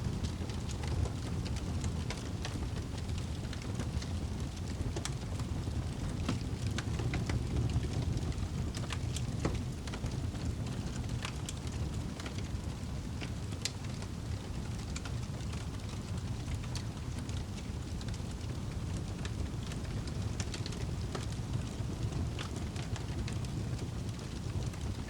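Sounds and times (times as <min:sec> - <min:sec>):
flames rumbling: 0:00.0 - 0:25.0
wood fire crackling: 0:00.0 - 0:25.0.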